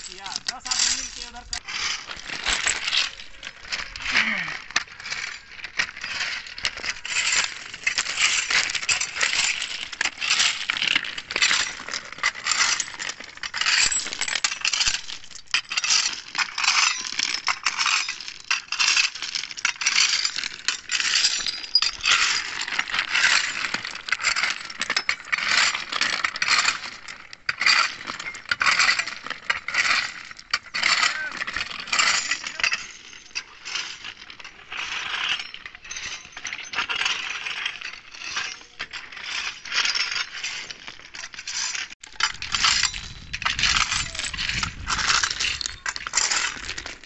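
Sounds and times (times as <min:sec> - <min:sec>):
fork scraping through gravel: 0:00.0 - 0:47.0.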